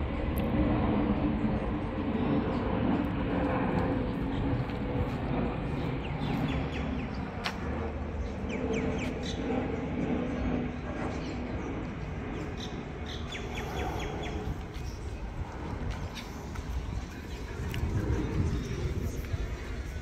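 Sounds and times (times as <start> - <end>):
steady low rumble: 0.0 - 20.0
birds chirping: 3.9 - 20.0.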